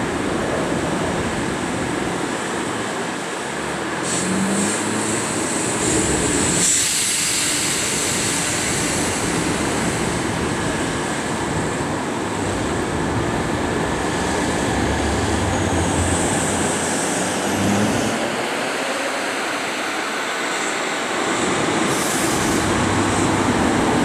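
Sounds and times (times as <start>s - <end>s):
train coaches rolling past: 0.0s - 24.0s.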